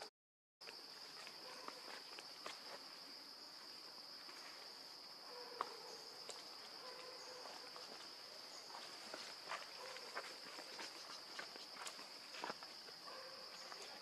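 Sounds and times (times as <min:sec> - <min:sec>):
insects droning: 0:00.6 - 0:14.0.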